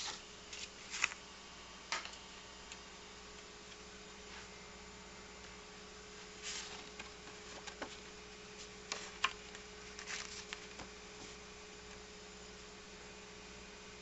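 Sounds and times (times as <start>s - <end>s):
electrical hum and buzz: 0.0s - 14.0s.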